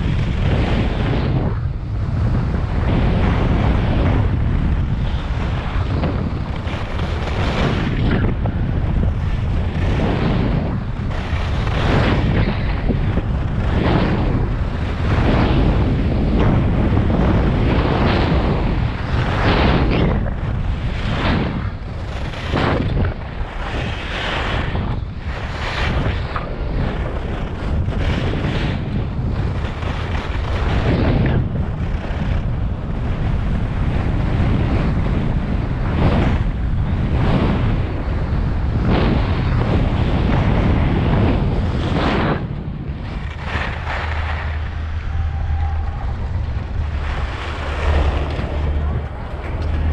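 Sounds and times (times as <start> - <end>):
skis scraping on snow: 0.0 - 19.9, 20.6 - 37.7, 38.4 - 49.9
wind rushing over microphone: 0.0 - 49.9.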